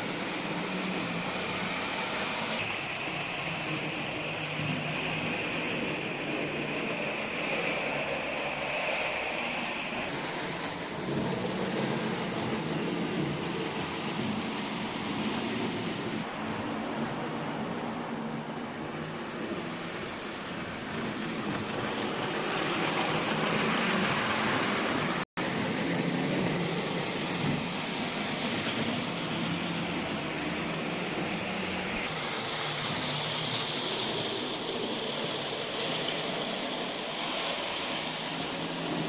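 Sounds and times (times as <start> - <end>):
model train running on metal track: 0.0 - 39.0.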